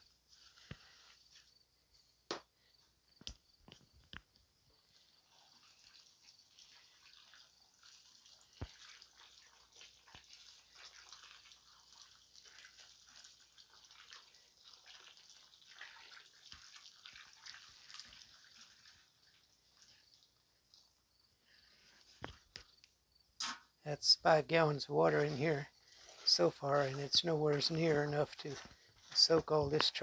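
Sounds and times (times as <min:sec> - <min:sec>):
water pattering on charcoal: 0:00.2 - 0:01.6, 0:03.2 - 0:30.0.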